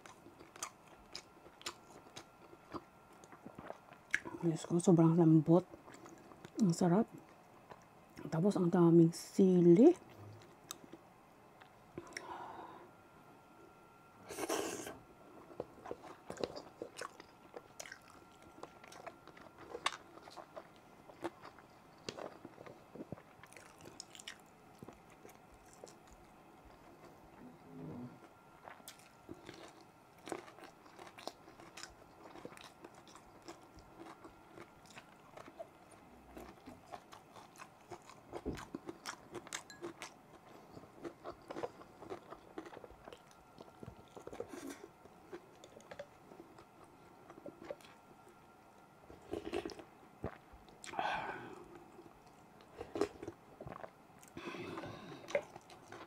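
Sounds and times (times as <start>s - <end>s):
person chewing wetly: 0.0s - 4.5s, 5.7s - 6.6s, 15.4s - 27.1s, 28.2s - 56.0s.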